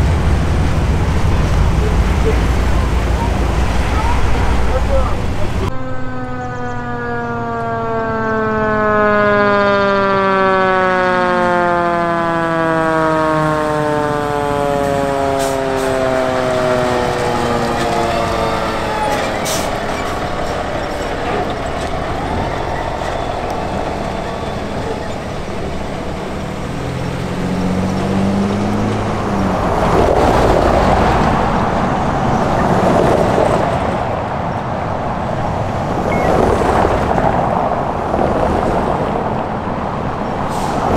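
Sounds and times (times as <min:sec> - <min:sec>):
fire engine siren: 0:00.0 - 0:34.6, 0:38.7 - 0:40.9
truck engine and tyre noise: 0:00.0 - 0:40.9.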